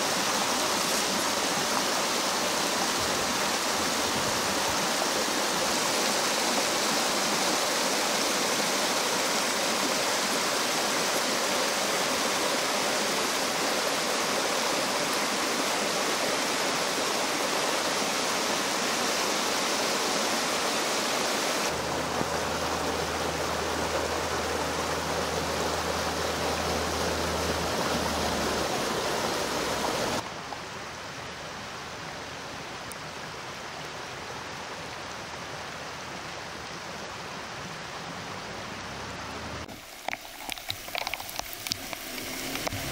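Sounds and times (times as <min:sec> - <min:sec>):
rain and running water: 0:00.0 - 0:42.9.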